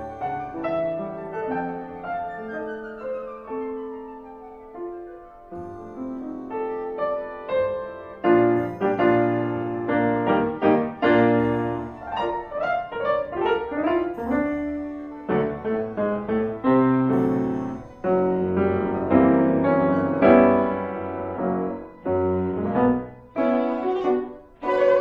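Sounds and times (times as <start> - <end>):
brisk piano tune: 0.0 - 25.0.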